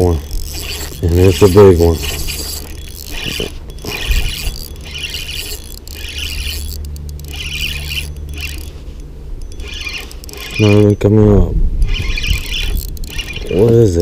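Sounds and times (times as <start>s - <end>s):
fishing reel squealing and scraping: 0.0s - 14.0s.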